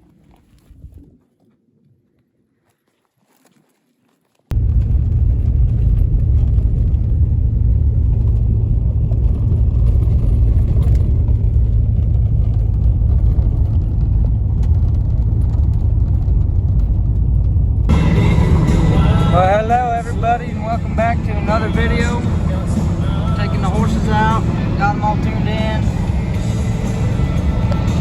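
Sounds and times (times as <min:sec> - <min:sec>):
pickup truck driving rumble: 0:04.5 - 0:28.0.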